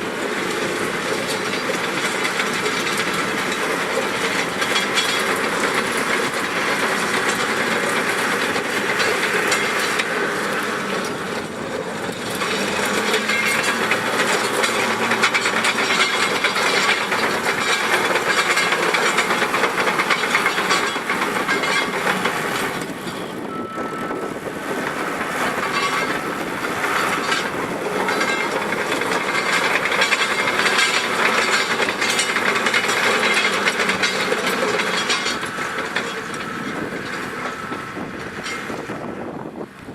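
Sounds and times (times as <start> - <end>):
steel tracks clattering: 0.0 - 39.9
tractor diesel engine: 0.0 - 39.9.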